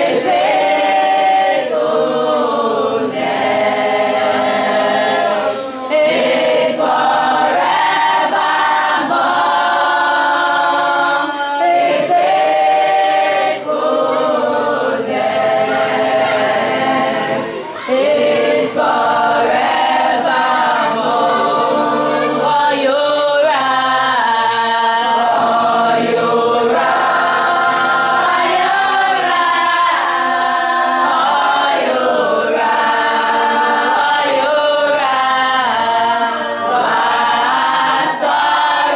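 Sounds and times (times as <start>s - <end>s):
children singing in chorus: 0.0s - 38.9s.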